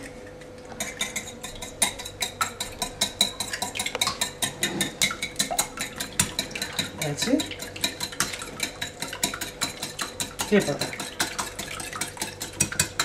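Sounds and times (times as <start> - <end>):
whisk clicking against glass bowl: 0.8 - 13.0.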